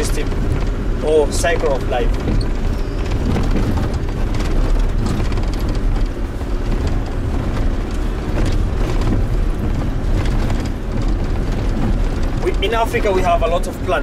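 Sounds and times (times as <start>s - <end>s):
knocks and rattles: 0.0s - 13.9s
vehicle engine and tyres rumbling: 0.0s - 14.0s.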